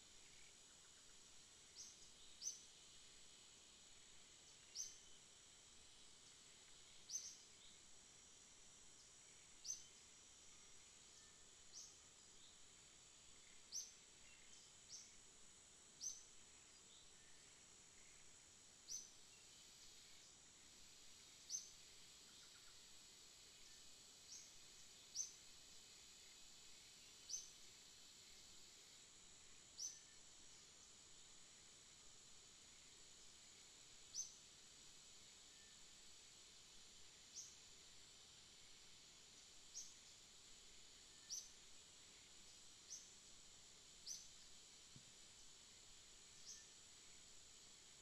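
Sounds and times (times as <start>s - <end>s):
faint high-pitched whine: 0.0s - 48.0s.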